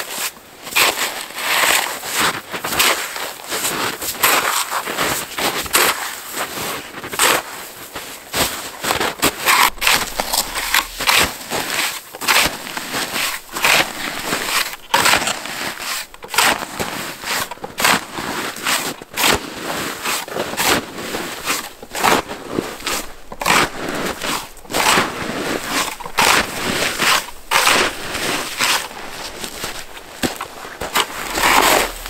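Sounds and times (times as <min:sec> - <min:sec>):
snow shovel crunching snow: 0:00.0 - 0:32.0.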